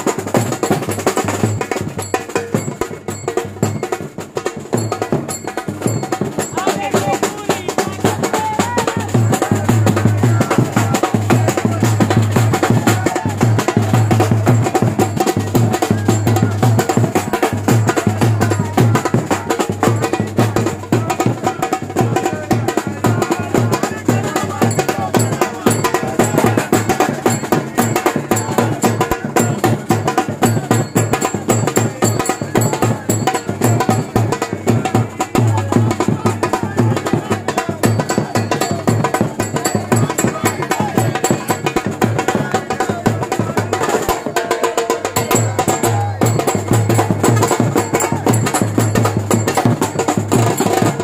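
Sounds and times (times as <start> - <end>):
music with percussion beat: 0.0 - 51.0.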